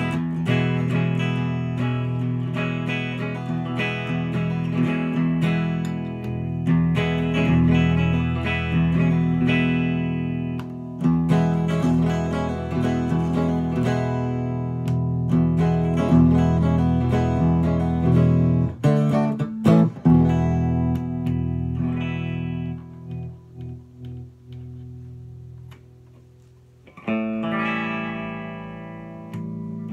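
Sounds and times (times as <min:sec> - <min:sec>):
electric guitar blues-jazz playing: 0:00.0 - 0:29.9.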